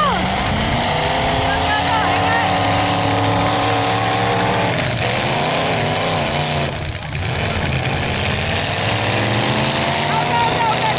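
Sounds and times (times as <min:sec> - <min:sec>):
loud car engines revving: 0:00.0 - 0:10.9.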